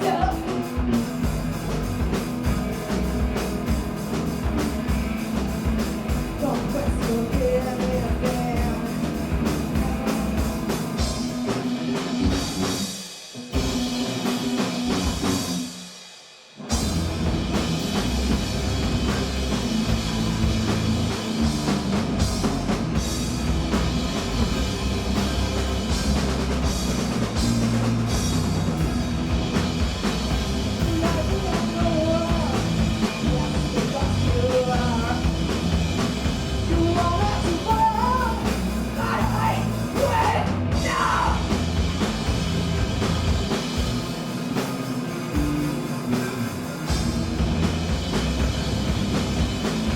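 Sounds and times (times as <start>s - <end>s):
punk rock band playing live: 0.0s - 49.9s.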